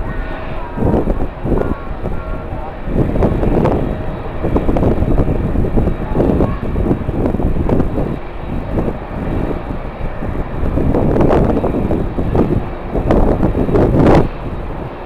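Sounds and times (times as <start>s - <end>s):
strong wind gusting on microphone: 0.0s - 15.0s.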